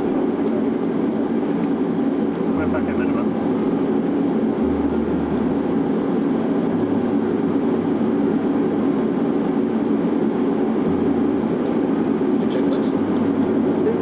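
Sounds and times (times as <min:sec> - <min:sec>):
cockpit airflow and engine drone: 0:00.0 - 0:14.0
low hum: 0:00.0 - 0:14.0.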